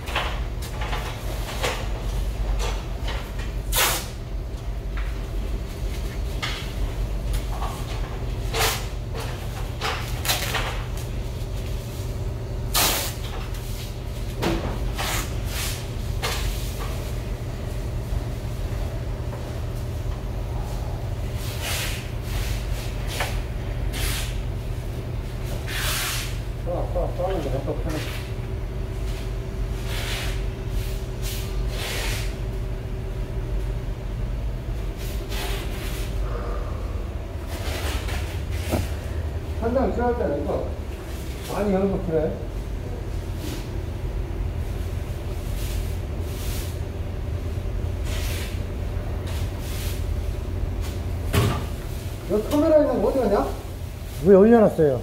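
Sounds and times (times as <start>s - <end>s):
ventilation hum: 0.0s - 55.0s.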